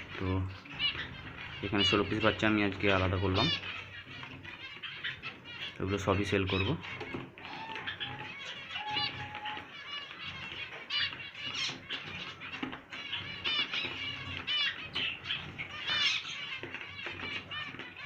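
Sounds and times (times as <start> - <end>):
cage birds chirping: 0.0 - 18.0.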